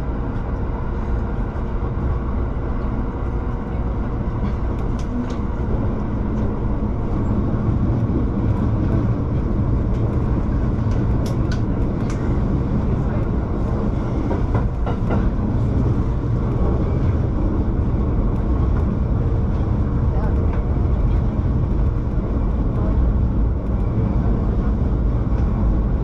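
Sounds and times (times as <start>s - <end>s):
train motors and wheels rumbling: 0.0s - 26.0s.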